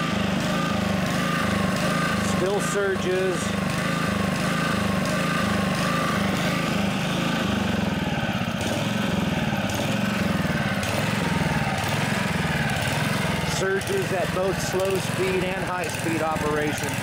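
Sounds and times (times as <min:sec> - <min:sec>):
lawnmower engine surging: 0:00.0 - 0:17.0.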